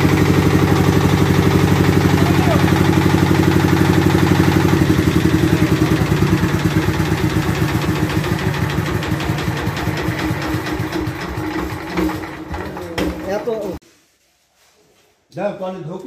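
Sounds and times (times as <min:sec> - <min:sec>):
diesel generator engine running: 0:00.0 - 0:13.8.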